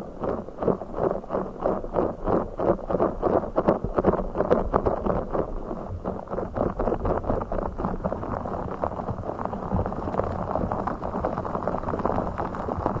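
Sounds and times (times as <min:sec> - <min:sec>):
muffled tapping and scratching: 0:00.2 - 0:13.0.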